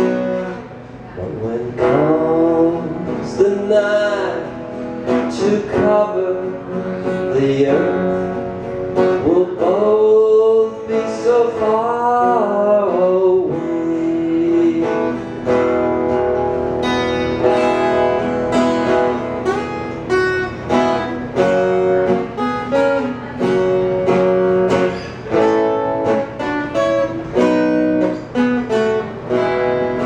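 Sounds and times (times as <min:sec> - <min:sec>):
plucked string instrument: 0:00.0 - 0:30.0.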